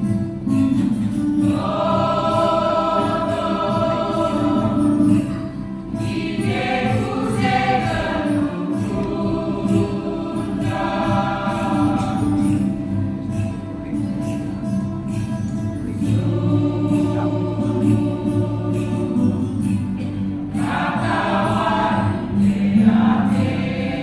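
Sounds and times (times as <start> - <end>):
choir singing a hymn: 0.8 - 15.2, 15.8 - 24.0.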